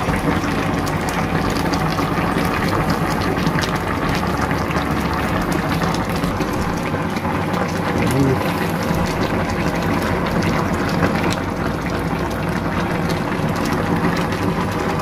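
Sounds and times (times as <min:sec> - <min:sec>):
stew boiling and bubbling: 0:00.0 - 0:15.0.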